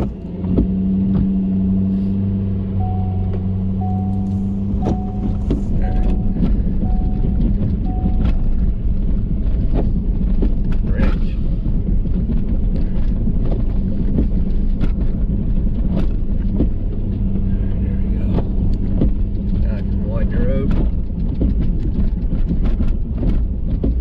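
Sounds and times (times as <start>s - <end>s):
sharp knocks and clicks: 0.0s - 1.4s, 3.2s - 17.4s, 18.3s - 24.0s
truck engine low drone: 0.0s - 24.0s.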